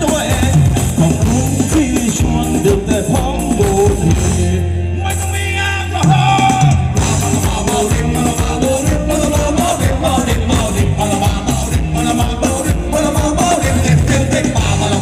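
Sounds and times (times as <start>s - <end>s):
live band dance music with singing: 0.0s - 15.0s.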